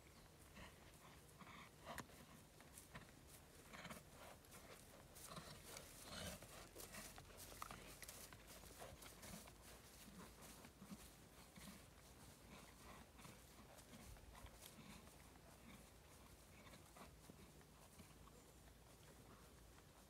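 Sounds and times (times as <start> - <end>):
faint hoofbeats on grass: 0.0 - 20.0.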